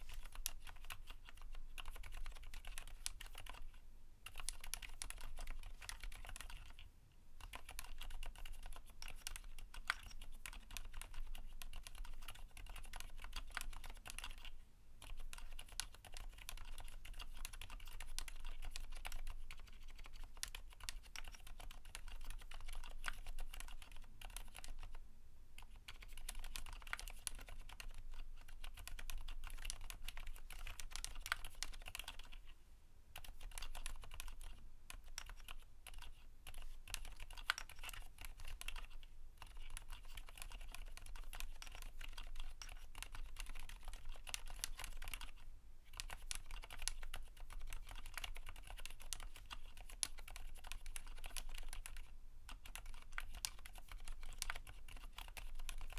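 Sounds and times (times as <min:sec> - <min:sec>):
fast typing on keyboard: 0:00.0 - 0:06.8, 0:07.4 - 0:25.0, 0:25.6 - 0:32.5, 0:33.2 - 0:55.9.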